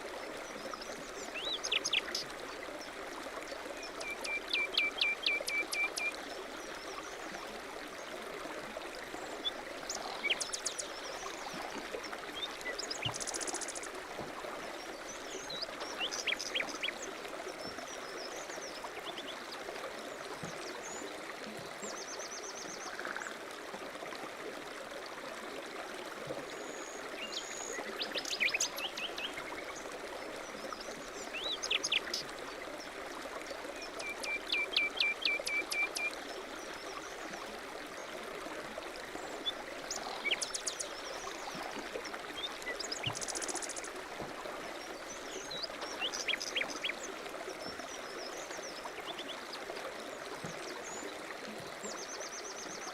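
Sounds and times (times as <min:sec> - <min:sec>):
stream running: 0:00.0 - 0:52.9.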